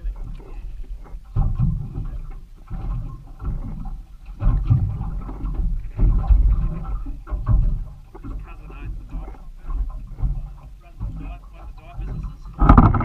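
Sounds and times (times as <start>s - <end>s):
water slapping against boat hull: 0.0s - 13.0s.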